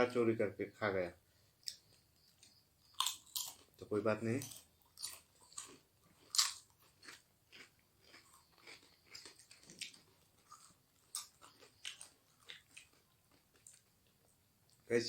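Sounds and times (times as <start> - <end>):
person chewing crunchy food: 1.6 - 3.8, 4.4 - 14.8.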